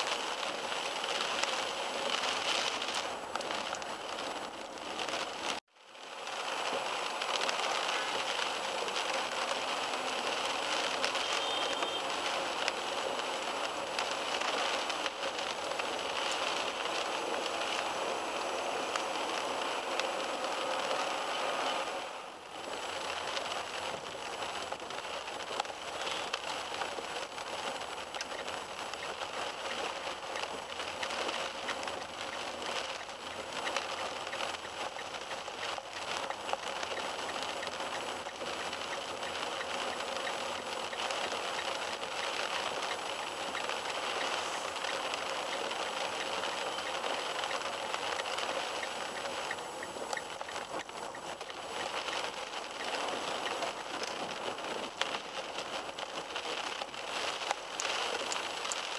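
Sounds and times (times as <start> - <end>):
rain falling on a car: 0.0 - 58.9
tyre noise on wet road: 0.0 - 58.9.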